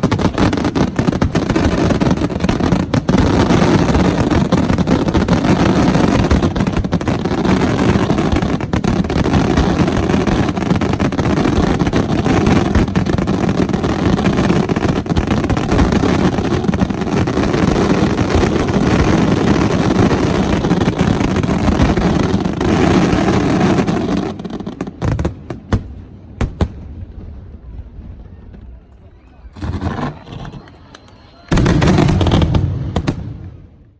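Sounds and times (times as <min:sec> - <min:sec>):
fireworks bangs: 0:00.0 - 0:33.9
fireworks barrage: 0:00.0 - 0:33.9.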